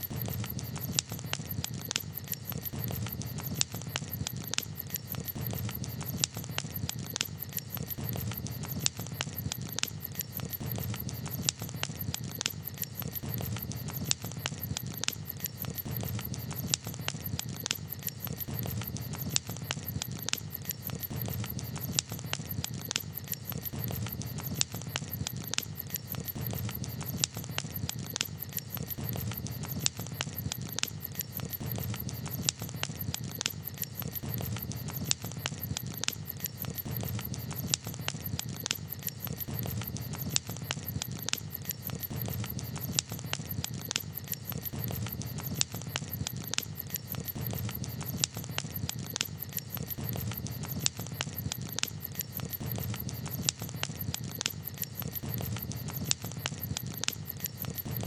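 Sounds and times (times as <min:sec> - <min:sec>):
campfire crackling: 0:00.0 - 0:58.0
low fire rumble: 0:00.0 - 0:58.0.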